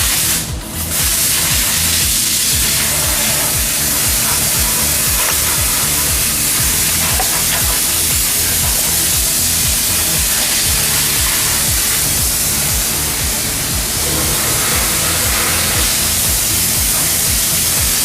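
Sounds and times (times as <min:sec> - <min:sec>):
constant high hiss: 0:00.0 - 0:18.0
loud music with thumping bass: 0:00.0 - 0:18.0.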